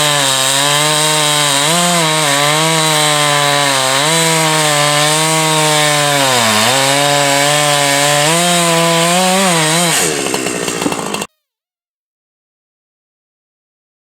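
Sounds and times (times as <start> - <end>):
chainsaw cutting wood: 0.0 - 11.4.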